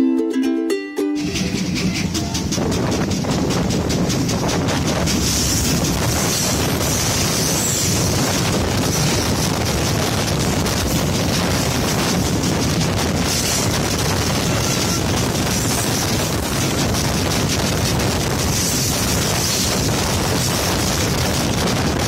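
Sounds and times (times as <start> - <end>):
freight train passing close: 0.2 - 22.0
rush of wheel and rail noise: 1.0 - 22.0
wind buffeting microphone: 1.2 - 22.0.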